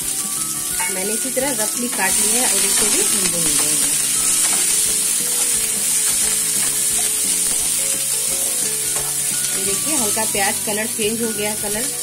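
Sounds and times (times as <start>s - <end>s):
onions sizzling in oil: 0.0s - 12.0s
pieces shuffling in pan: 0.1s - 12.0s.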